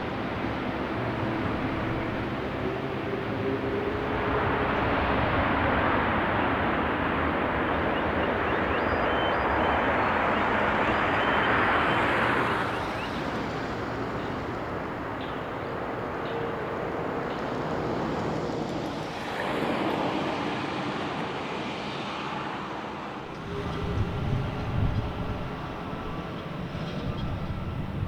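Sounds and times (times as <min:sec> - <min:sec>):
jet airliner engine rushing: 0:00.0 - 0:28.0.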